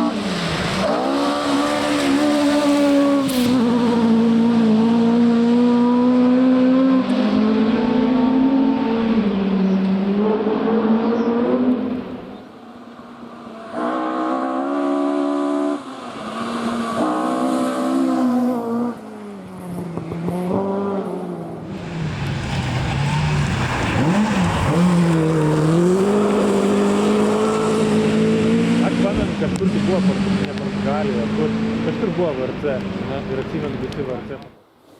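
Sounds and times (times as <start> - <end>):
rally car engine revving: 0.0 - 12.4, 13.4 - 34.5.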